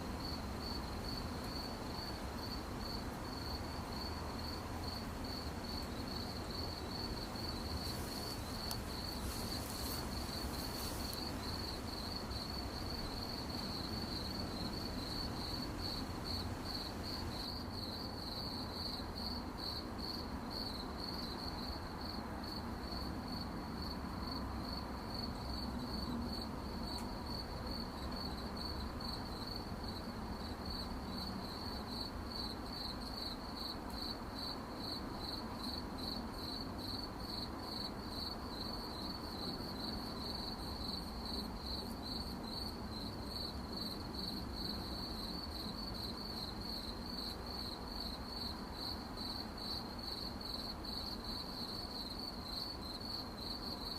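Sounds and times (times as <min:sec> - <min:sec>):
crickets chirping: 0:00.0 - 0:53.9
low background noise: 0:00.0 - 0:53.9.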